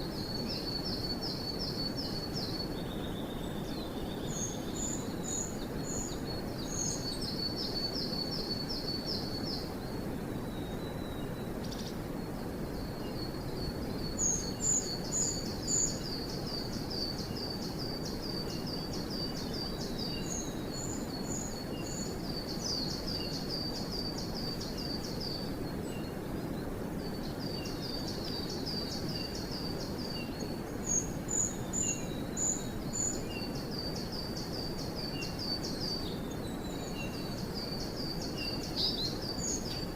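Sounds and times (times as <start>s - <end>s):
low rush of background noise: 0.0s - 39.9s
songbirds singing: 0.0s - 39.9s.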